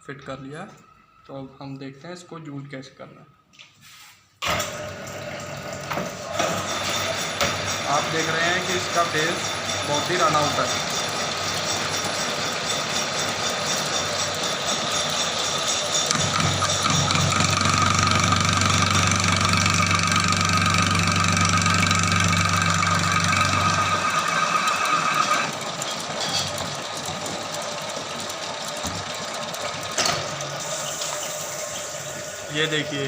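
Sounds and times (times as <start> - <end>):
lathe low hum: 4.5 - 33.0
lathe high whine: 6.4 - 33.0.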